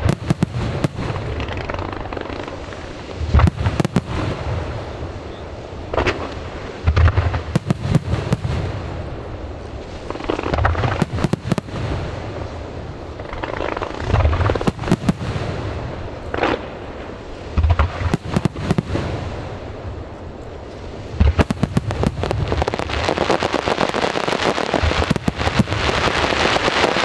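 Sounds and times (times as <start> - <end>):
fireworks booming: 0.0 - 27.0
fireworks crackling: 0.0 - 27.0.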